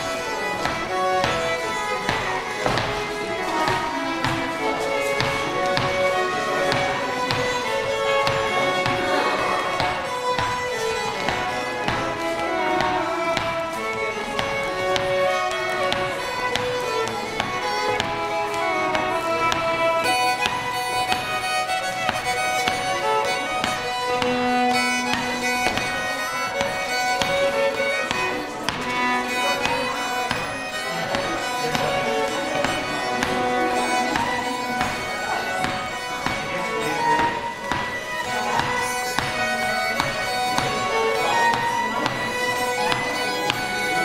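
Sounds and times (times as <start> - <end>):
fiddle playing dance tune: 0.0 - 44.0.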